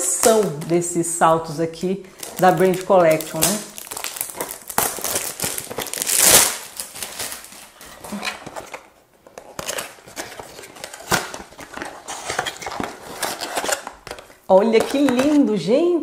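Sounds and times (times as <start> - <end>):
packaging crinkling: 1.3 - 15.4.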